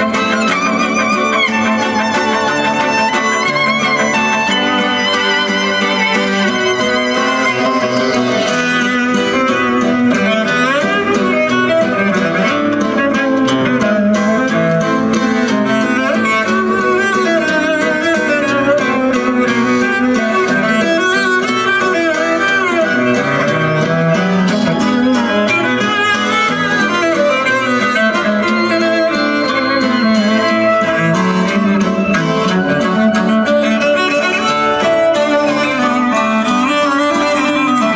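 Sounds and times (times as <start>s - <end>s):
violin music with steady beat: 0.0s - 37.9s.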